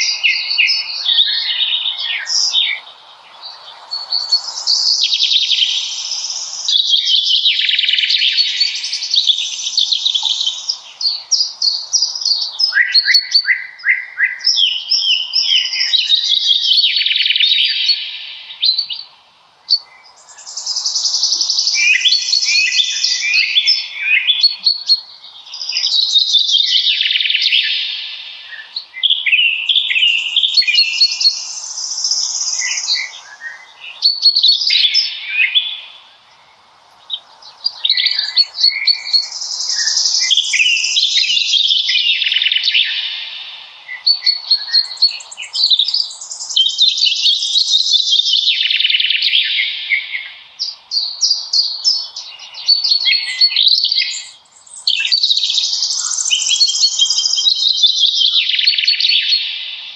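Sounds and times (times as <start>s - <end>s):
songbirds singing trills: 0.0s - 59.9s.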